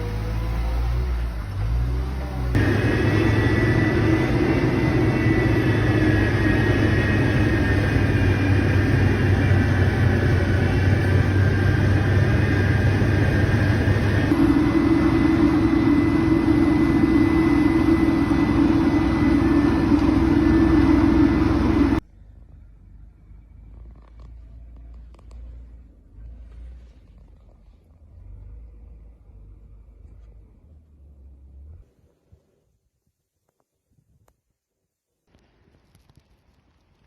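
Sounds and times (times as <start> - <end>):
engine-like rumble with tones: 0.0 - 32.0.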